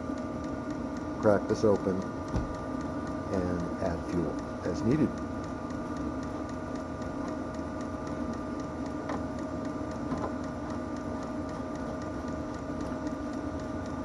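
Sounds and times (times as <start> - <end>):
fuel pump ticking: 0.0 - 14.0
heater blower hum: 0.0 - 14.0.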